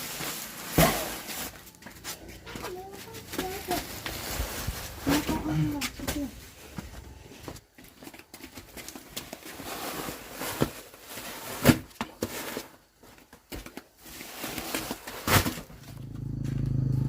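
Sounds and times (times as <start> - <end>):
rustling and handling noise: 0.0 - 16.6.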